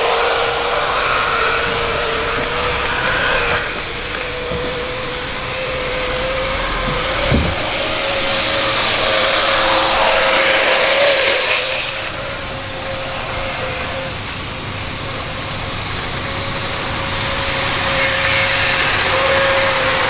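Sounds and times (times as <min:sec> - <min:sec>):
model train motor whine: 0:00.0 - 0:20.0
wheels hissing on track: 0:00.0 - 0:20.0.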